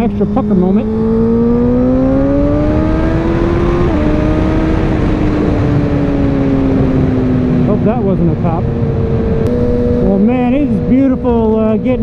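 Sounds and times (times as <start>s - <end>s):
motorcycle engine accelerating: 0.0s - 12.0s
wind rush: 0.8s - 12.0s.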